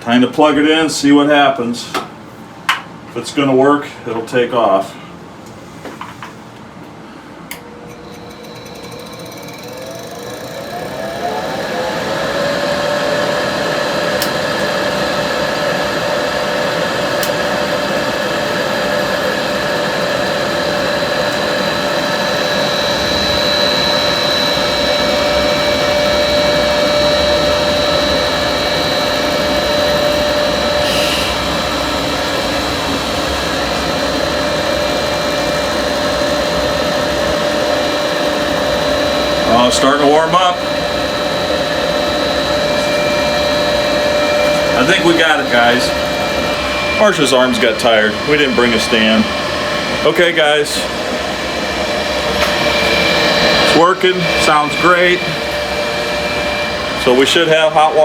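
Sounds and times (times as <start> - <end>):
blower motor whining: 7.4 - 58.0.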